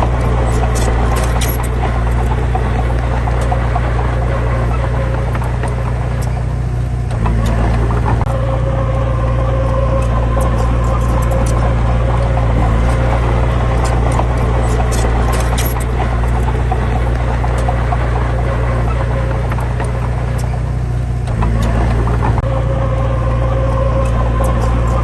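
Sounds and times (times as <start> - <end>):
small clicks and rattles: 0.0 - 8.4, 9.9 - 22.5
diesel engine running: 0.0 - 25.0
high whine: 0.0 - 25.0.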